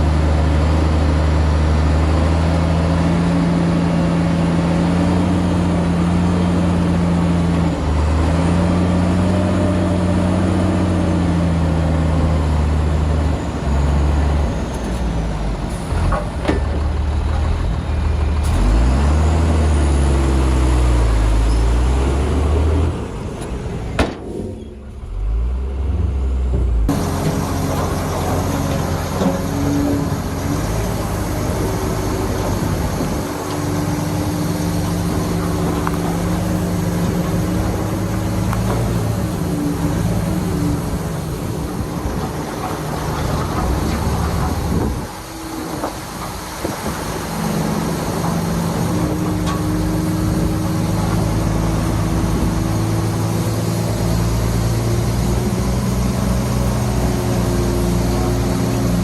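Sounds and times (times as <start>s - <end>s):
heavy diesel engines under load: 0.0s - 59.0s.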